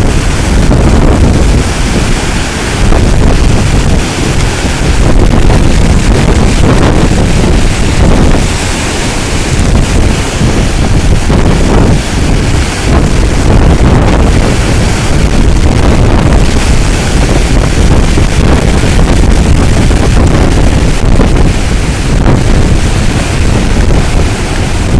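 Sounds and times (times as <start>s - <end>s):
storm surf breaking: 0.0s - 24.9s
wind buffeting microphone: 0.0s - 24.9s.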